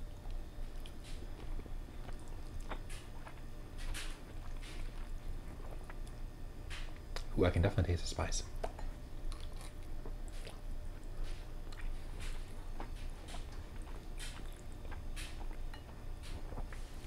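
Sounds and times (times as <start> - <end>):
wet chewing mouth sounds: 0.0 - 7.4, 8.5 - 17.0.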